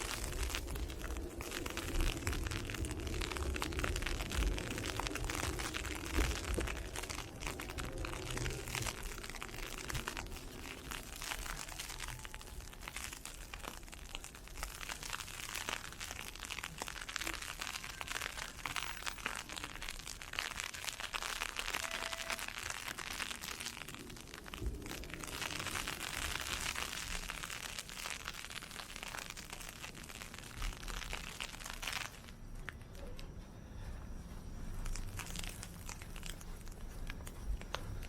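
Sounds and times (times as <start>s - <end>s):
ice pellets hitting an umbrella: 0.0s - 32.3s.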